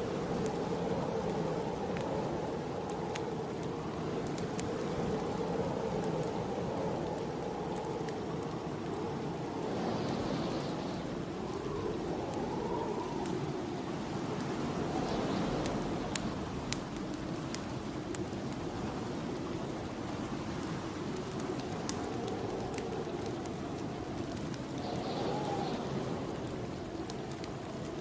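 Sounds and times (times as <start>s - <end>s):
wind blowing in gusts: 0.0s - 28.0s
wood fire crackling: 0.0s - 28.0s.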